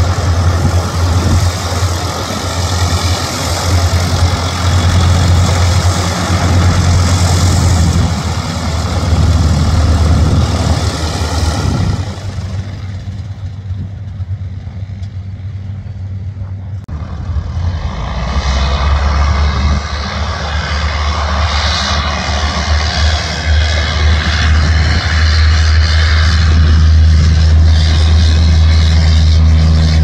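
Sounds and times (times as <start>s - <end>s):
light aircraft engine humming: 0.0s - 30.0s.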